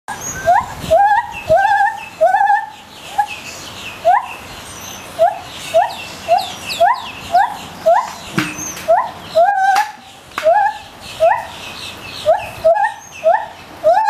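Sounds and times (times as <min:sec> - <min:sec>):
gibbon whooping: 0:00.1 - 0:03.4, 0:04.0 - 0:04.4, 0:05.1 - 0:11.6, 0:12.2 - 0:14.0.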